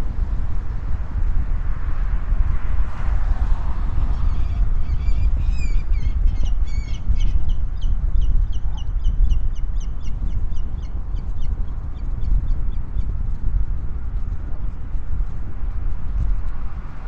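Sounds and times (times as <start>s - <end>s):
traffic rumble: 0.0s - 17.0s
wind: 0.0s - 17.0s.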